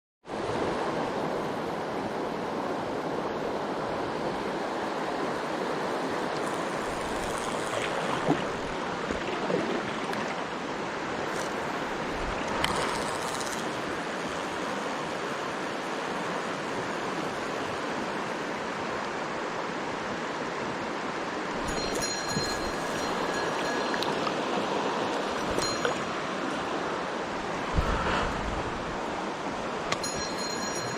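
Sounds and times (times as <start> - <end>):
stream rushing over rocks: 0.3 - 30.9.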